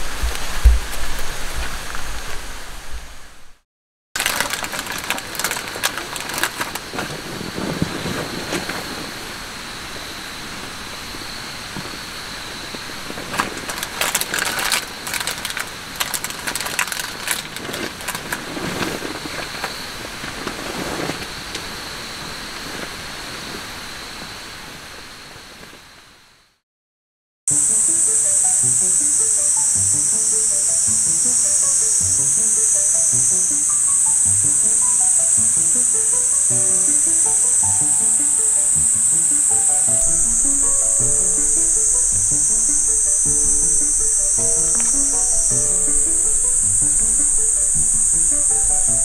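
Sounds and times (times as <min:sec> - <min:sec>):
crackles and clicks: 0:04.2 - 0:26.0, 0:27.6 - 0:49.0
high trill of insects: 0:04.2 - 0:26.4, 0:27.5 - 0:49.0.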